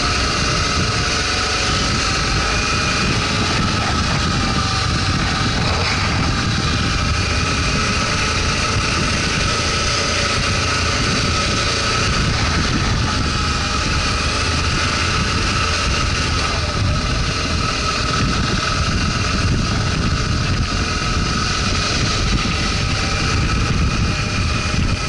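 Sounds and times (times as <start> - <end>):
high whine: 0.0 - 25.0
motorcycle engine rumbling: 0.0 - 25.0.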